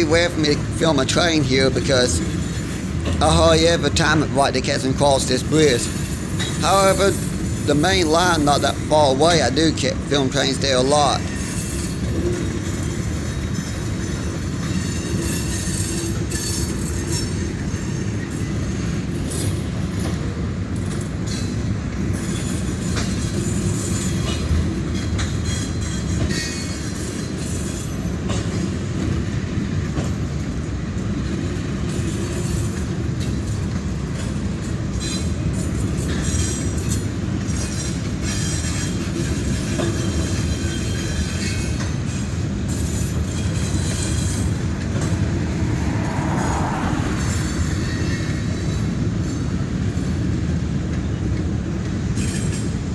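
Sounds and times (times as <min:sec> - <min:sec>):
train cars clattering: 0:00.0 - 0:52.9
train wheels rumbling on rail: 0:00.0 - 0:52.9.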